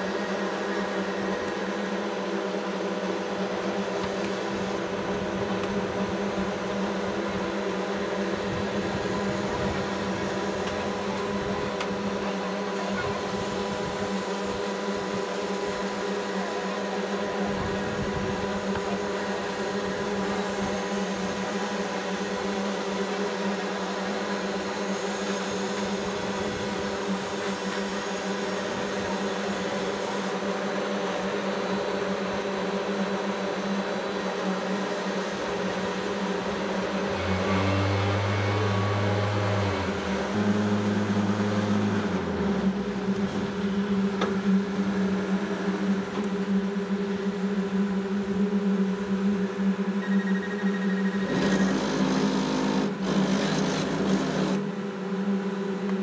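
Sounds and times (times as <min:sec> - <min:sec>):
concrete paver machine drone: 0:00.0 - 0:56.0.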